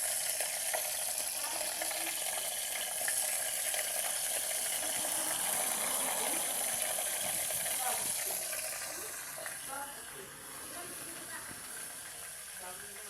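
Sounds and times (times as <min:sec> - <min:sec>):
chicken sizzling in hot oil: 0:00.0 - 0:13.0
oil crackles and pops: 0:00.0 - 0:13.0.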